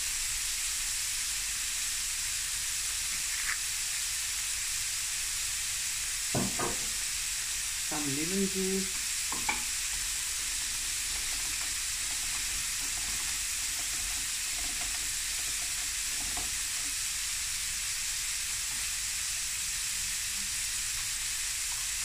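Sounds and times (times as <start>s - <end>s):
prawns sizzling in a pan: 0.0s - 22.0s.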